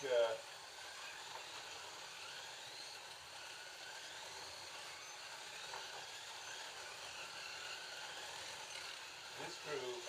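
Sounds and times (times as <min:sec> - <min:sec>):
slot car motors whining: 0:00.0 - 0:10.0.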